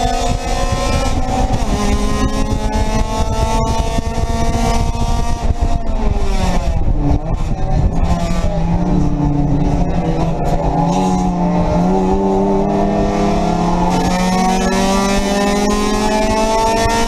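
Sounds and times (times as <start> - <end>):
gear change: 0.0 - 17.0
race car engine revving: 0.0 - 17.0
road and wind noise: 0.0 - 17.0.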